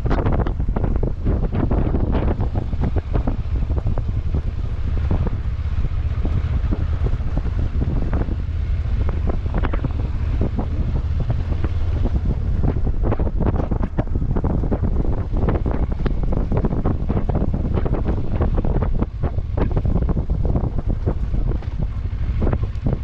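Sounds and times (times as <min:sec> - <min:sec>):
vehicle low rumble: 0:00.0 - 0:23.0
wind buffeting microphone: 0:00.0 - 0:23.0.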